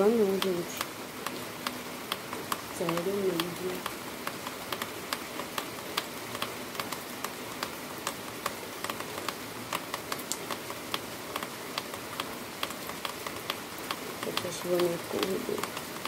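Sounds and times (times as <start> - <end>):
close raindrop ticks: 0.0 - 16.0
heavy rain: 0.0 - 16.0.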